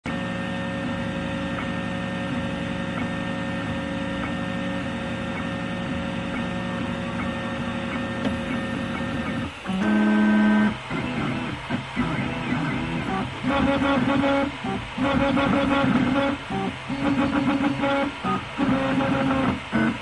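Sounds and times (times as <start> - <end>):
faint printer ticks: 0.1 - 20.0
printer stepper motors humming: 0.1 - 20.0.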